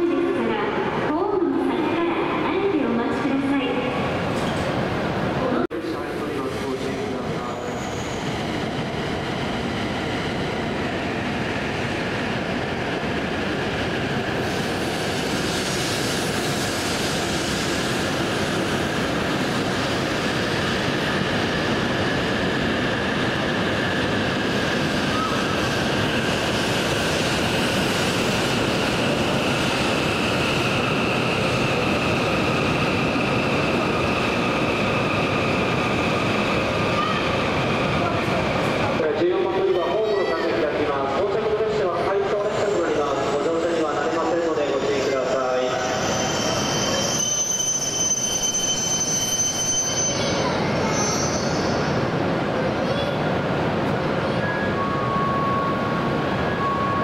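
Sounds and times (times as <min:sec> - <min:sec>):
train wheels rushing: 0:05.8 - 0:57.0.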